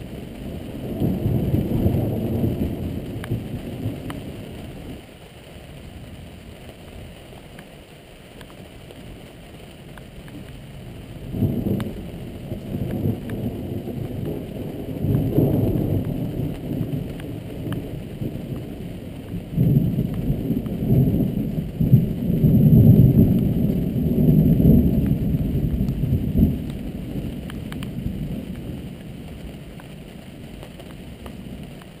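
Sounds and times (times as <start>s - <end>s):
thunder rumbling: 0.0s - 5.0s, 10.3s - 32.0s.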